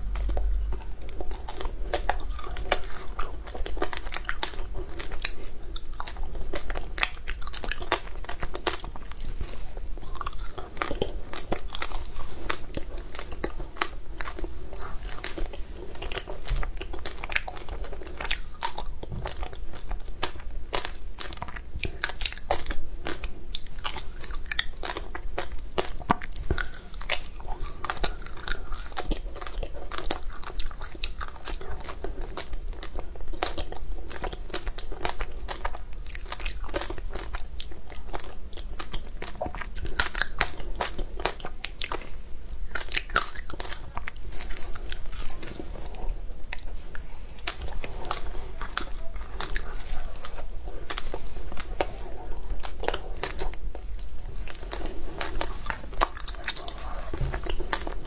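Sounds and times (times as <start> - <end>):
crunching and chewing ice: 0.0 - 58.0.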